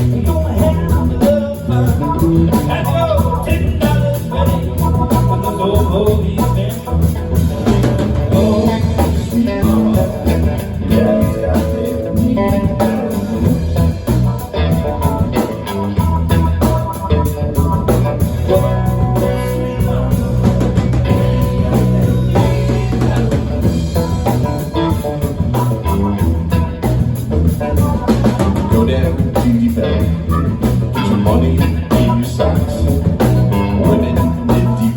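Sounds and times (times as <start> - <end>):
blues guitar: 0.0 - 34.9
drum kit: 0.0 - 34.9.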